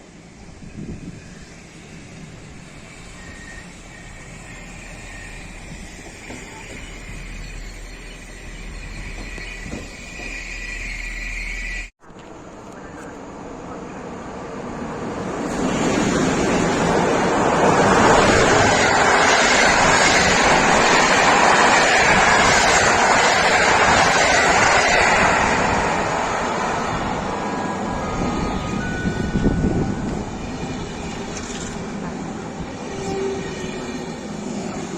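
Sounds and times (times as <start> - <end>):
train rumbling past: 0.0 - 12.4, 13.2 - 34.9.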